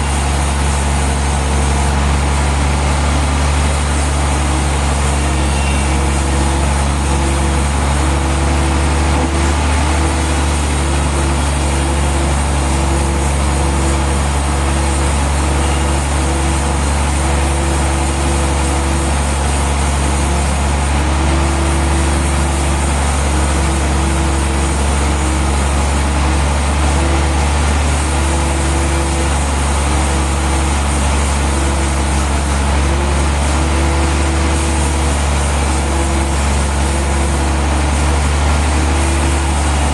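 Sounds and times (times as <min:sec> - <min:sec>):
deep engine drone: 0:00.0 - 0:39.9
higher machine hum: 0:00.0 - 0:39.9.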